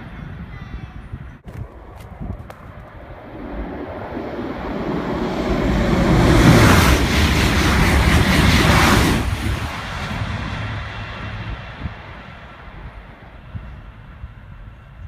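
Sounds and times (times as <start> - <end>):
high-speed train passing: 0.0 - 15.0.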